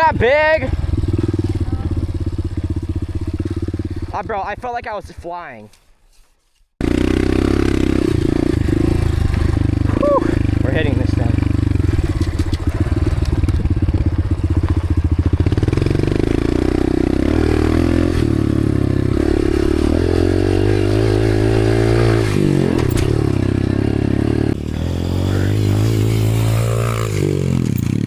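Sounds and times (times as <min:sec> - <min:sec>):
dirt bike engine revving: 0:00.0 - 0:04.8, 0:06.8 - 0:28.0.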